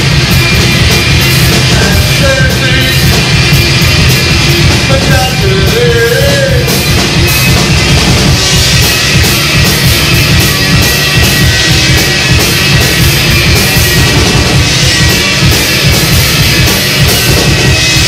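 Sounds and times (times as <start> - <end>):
drums keeping steady beat: 0.0 - 18.0
rock band playing punk rock: 0.0 - 18.0.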